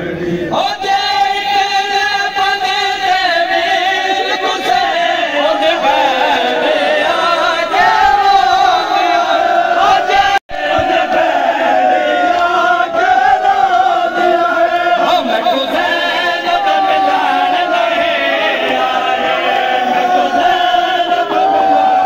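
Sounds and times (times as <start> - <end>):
crowd of men chanting: 0.0 - 22.0.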